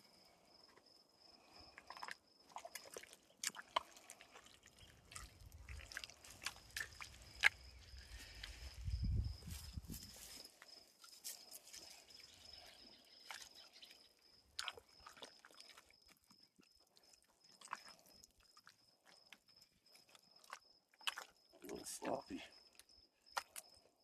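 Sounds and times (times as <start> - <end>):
wet mud squelching by hand: 1.6 - 10.4, 11.0 - 23.8.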